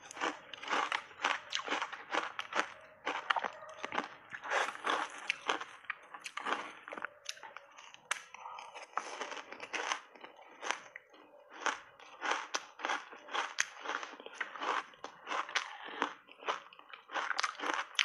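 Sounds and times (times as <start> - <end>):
ice crunching while chewed: 0.0 - 18.0.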